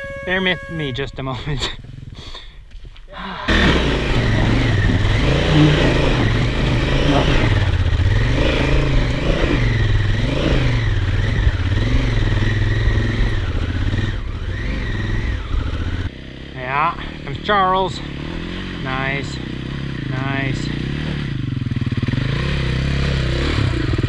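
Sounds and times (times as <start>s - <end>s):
motorcycle engine revving: 0.0s - 2.3s, 3.5s - 24.0s.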